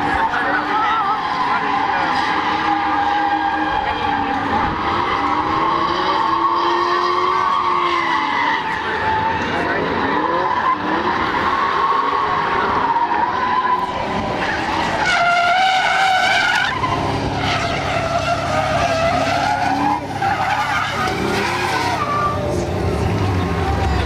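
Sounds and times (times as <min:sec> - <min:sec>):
tyres squealing: 0:00.0 - 0:24.0.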